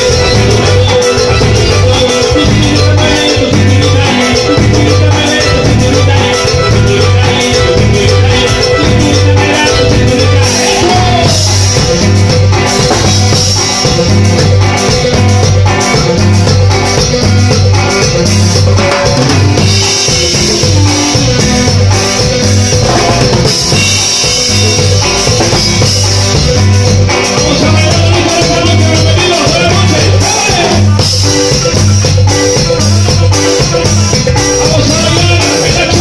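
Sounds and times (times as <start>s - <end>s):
drum kit beat: 0.0s - 36.0s
live band playing dance music: 0.0s - 36.0s.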